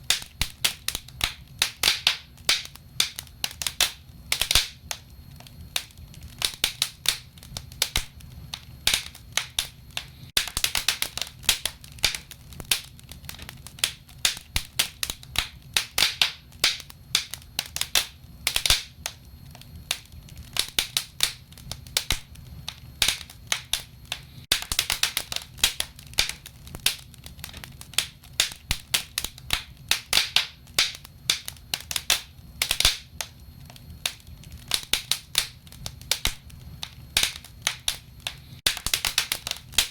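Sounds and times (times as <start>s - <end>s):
burning wood crackling: 0.0s - 39.9s
low rumble of flames: 0.0s - 39.9s.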